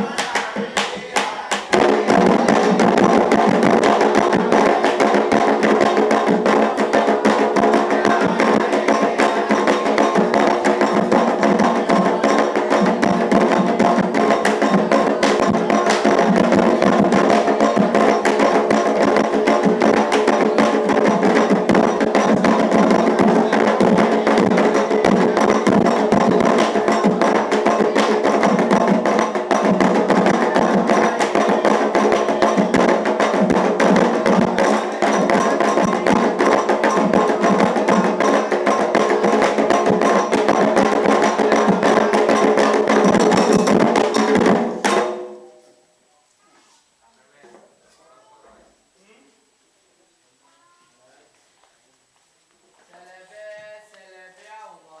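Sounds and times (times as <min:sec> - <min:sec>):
clacking percussion: 0:00.0 - 0:45.5
hand drums: 0:00.0 - 0:45.7.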